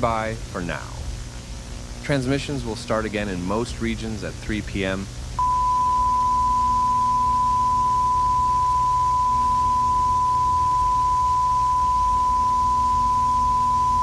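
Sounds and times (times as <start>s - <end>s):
faint low hum: 0.0s - 14.0s
steady line-up tone: 0.0s - 14.0s.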